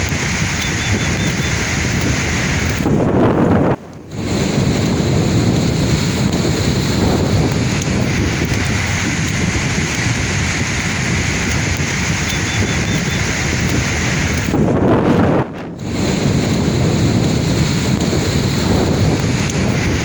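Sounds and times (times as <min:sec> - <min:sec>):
sea waves washing in: 0:00.0 - 0:20.0
wind buffeting microphone: 0:00.0 - 0:20.0.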